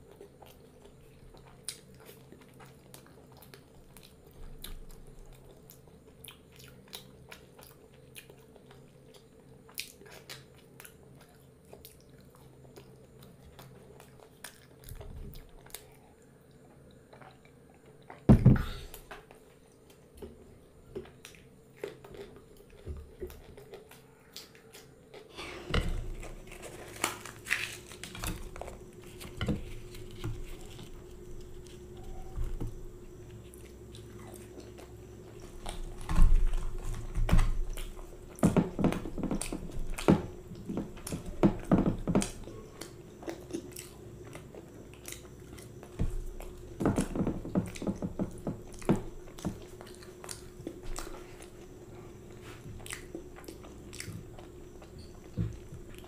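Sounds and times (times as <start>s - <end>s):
close-miked chewing: 0.0s - 18.3s, 18.9s - 25.3s, 26.0s - 56.0s
faint steady hum: 0.0s - 56.0s.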